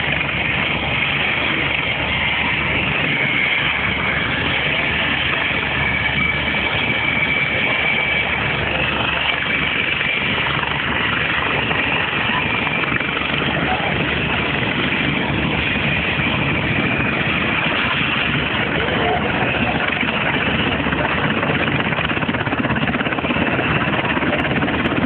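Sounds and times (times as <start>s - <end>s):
helicopter turbine engines running: 0.0s - 25.0s.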